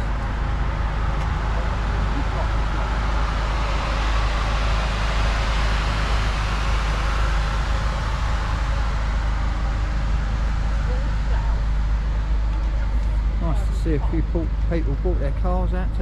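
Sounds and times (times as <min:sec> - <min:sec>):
deep rumble: 0:00.0 - 0:16.0.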